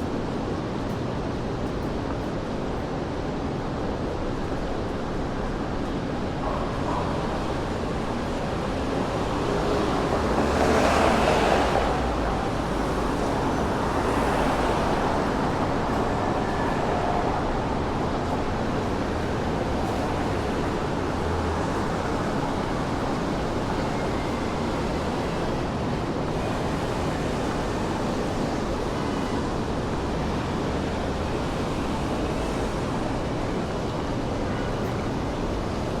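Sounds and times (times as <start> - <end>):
city street ambience hum: 0.0 - 36.0.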